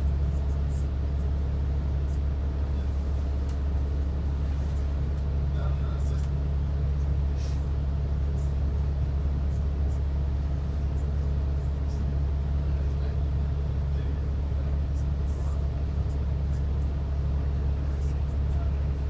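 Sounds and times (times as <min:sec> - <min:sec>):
bus engine drone: 0:00.0 - 0:19.0
road rumble: 0:00.0 - 0:19.0.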